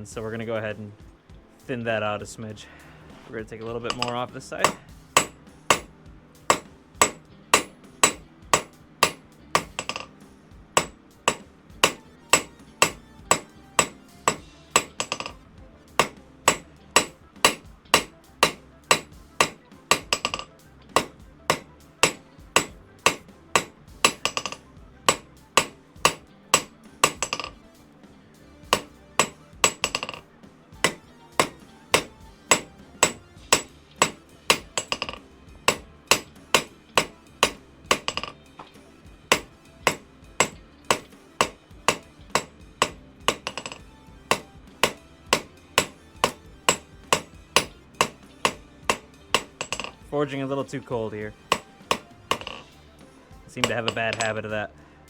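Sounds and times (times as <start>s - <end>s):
hammer striking steel on anvil: 3.6s - 15.4s, 16.0s - 27.7s, 28.6s - 52.8s, 53.6s - 54.6s.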